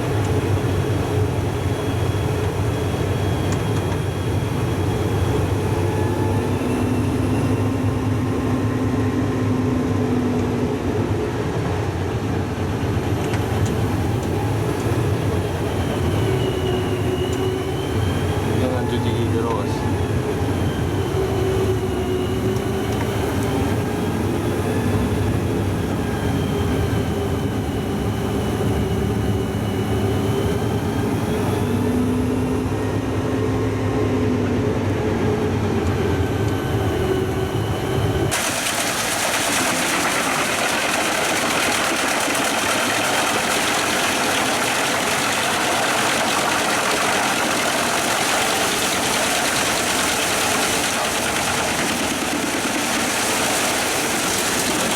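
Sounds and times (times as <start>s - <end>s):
wood chipper running: 0.0s - 31.0s, 37.0s - 54.9s.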